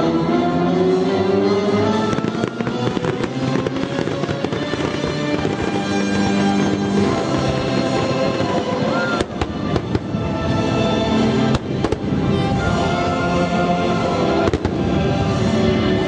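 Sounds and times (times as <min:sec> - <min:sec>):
loud music: 0:00.0 - 0:16.0
fireworks bangs and crackles: 0:01.4 - 0:16.0.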